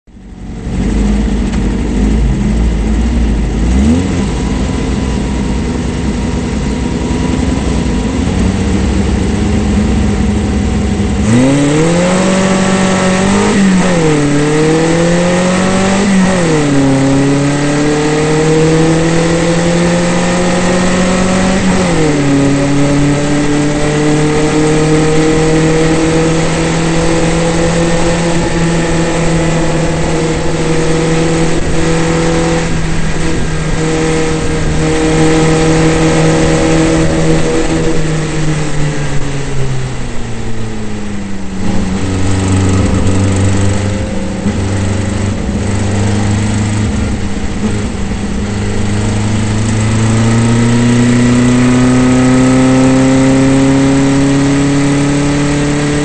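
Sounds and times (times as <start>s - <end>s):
race car engine revving: 0.1s - 56.0s.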